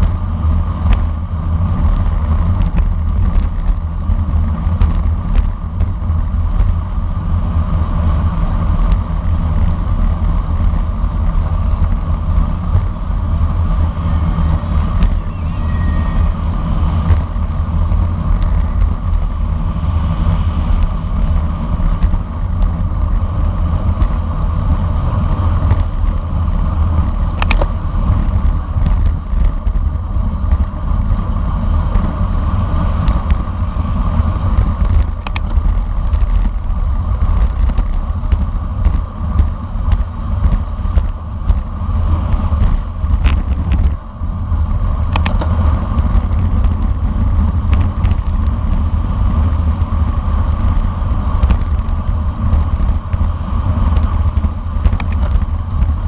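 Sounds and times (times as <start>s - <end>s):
tyre and road noise: 0.0s - 56.0s
wind on microphone: 0.0s - 56.0s.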